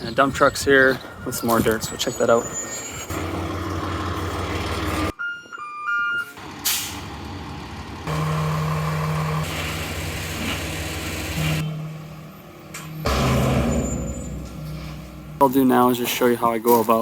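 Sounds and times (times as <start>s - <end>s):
truck engine droning: 1.0s - 5.1s, 6.4s - 16.8s.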